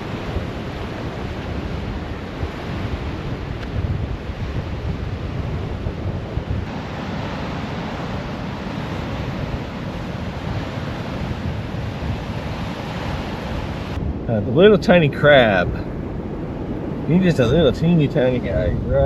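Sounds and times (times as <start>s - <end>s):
ocean surf washing on shore: 0.0s - 19.0s
wind buffeting microphone: 0.0s - 19.0s.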